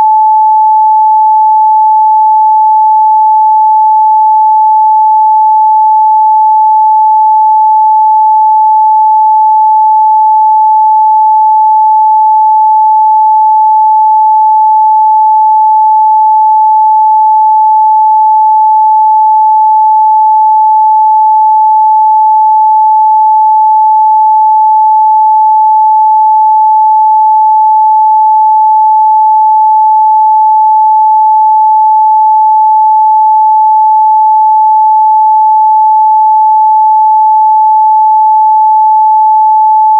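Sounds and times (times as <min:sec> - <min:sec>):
steady sine wave test tone: 0:00.0 - 0:39.9.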